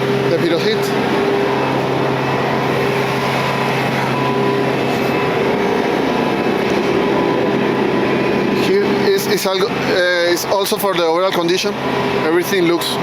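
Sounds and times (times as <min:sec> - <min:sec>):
aircraft ground machinery drone: 0:00.0 - 0:13.0.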